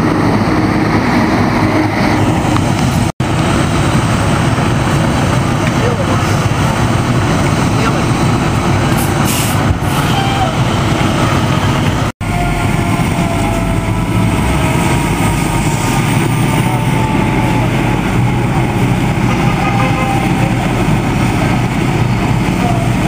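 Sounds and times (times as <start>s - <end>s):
diesel fire engines rumbling: 0.0s - 23.0s.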